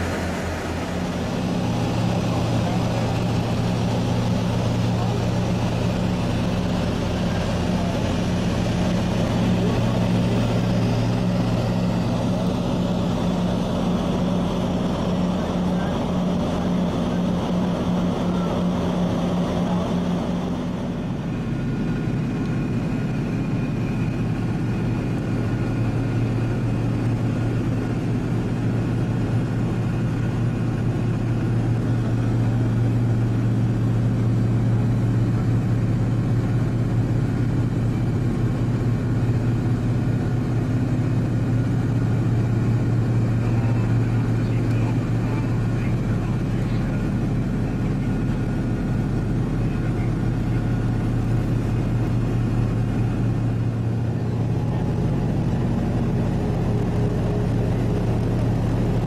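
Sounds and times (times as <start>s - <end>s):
propeller aircraft engines droning: 0.0s - 59.0s.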